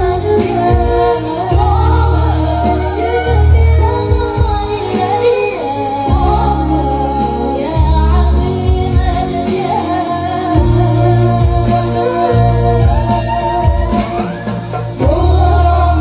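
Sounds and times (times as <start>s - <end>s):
instrumental backing with deep bass: 0.0s - 16.0s
woman singing: 0.0s - 16.0s.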